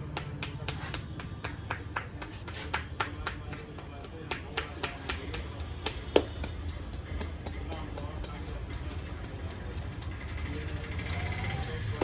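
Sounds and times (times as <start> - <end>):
hands tapping and slapping: 0.0 - 11.5.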